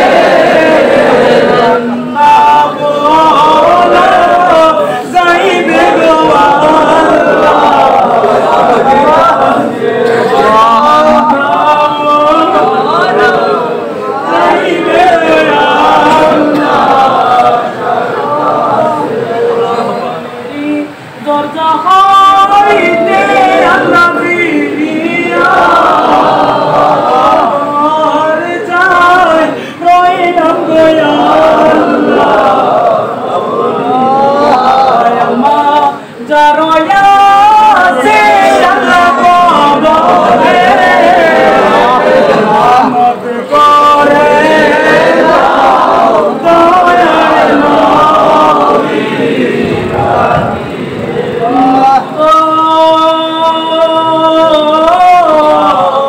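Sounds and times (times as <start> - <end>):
men chanting devotional song: 0.0 - 56.0.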